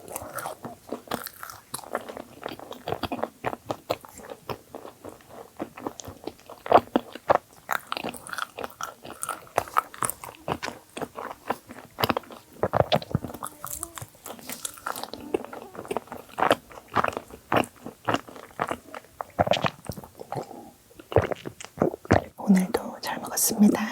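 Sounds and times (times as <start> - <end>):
chewing with wet mouth clicks: 0.0 - 23.9.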